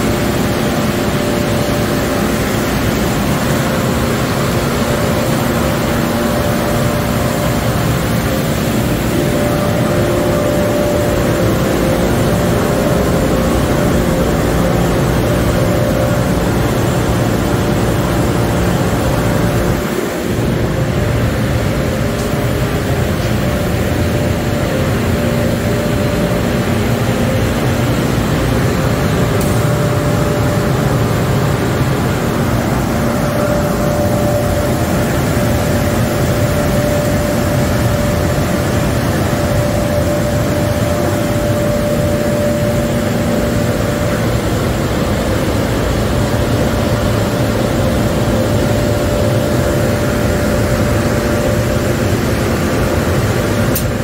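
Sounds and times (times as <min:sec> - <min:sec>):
car wash machinery running: 0:00.0 - 0:54.0
steady machine tone: 0:00.0 - 0:54.0.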